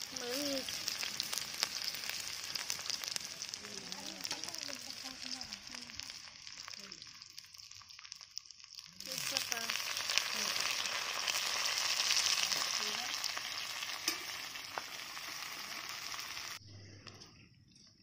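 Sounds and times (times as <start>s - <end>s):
hot oil sizzling in a wok: 0.0s - 16.6s.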